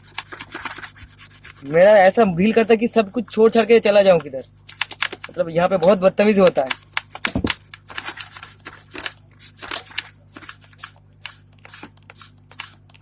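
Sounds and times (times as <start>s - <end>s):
brush scrubbing strokes: 0.0s - 12.8s.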